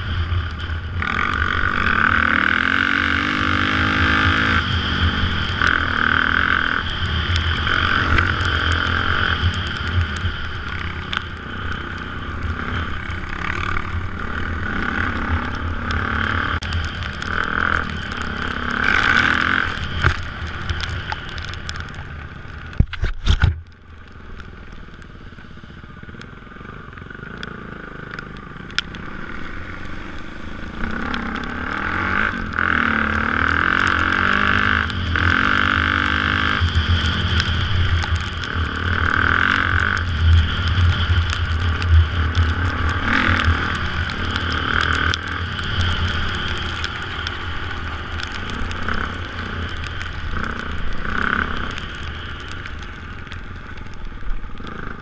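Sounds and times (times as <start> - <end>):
dirt bike engine running: 0.0 - 23.0, 23.8 - 55.0.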